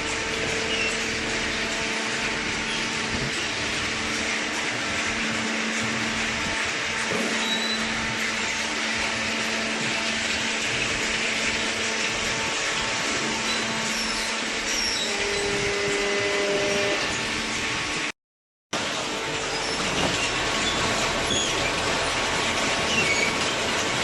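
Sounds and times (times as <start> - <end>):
motor and pump hum: 0.0 - 18.1, 18.8 - 24.0.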